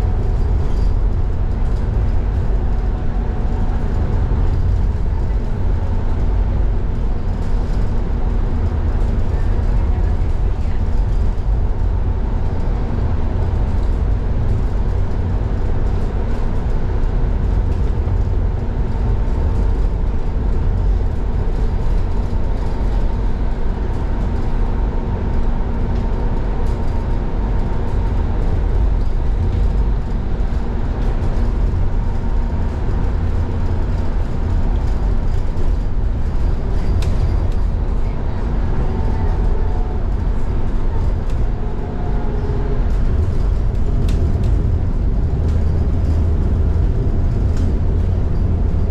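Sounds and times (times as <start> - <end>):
road and tyre rumble: 0.0 - 48.9.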